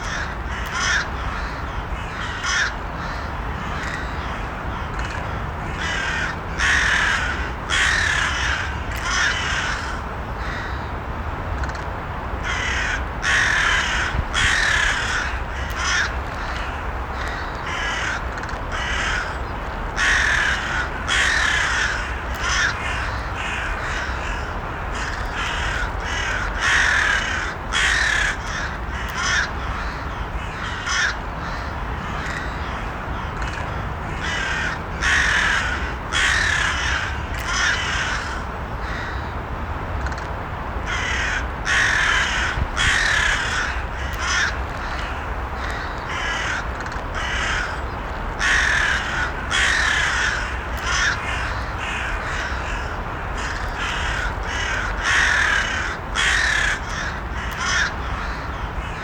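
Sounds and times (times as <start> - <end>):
crows cawing: 0.0 - 10.9, 12.4 - 39.3, 40.8 - 59.0.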